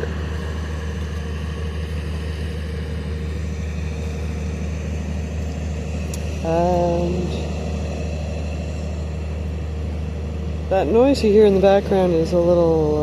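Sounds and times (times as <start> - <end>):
distant machinery engine drone: 0.0 - 13.0.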